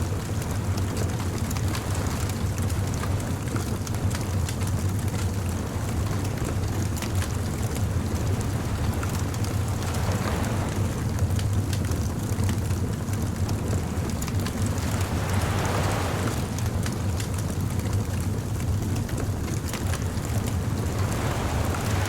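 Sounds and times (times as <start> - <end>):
bonfire crackling and popping: 0.1 - 22.0.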